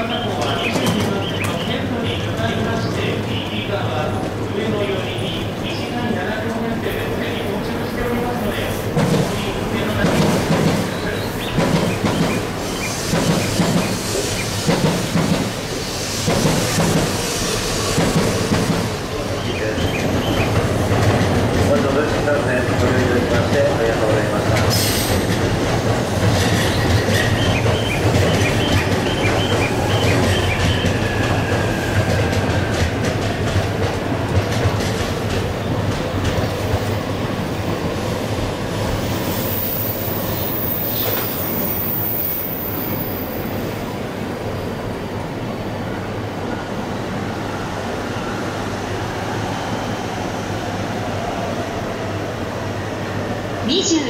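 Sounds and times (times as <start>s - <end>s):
train wheels rumbling on rails: 0.0s - 53.8s.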